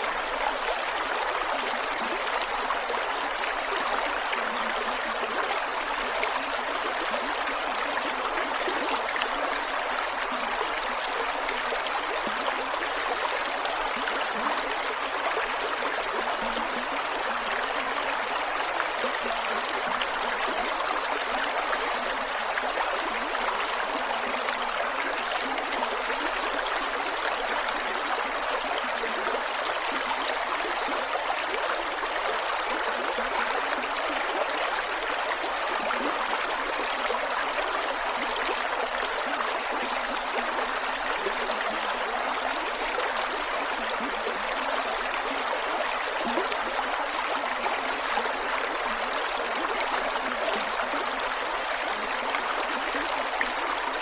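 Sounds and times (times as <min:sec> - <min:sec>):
creek water over rocks: 0:00.0 - 0:54.0.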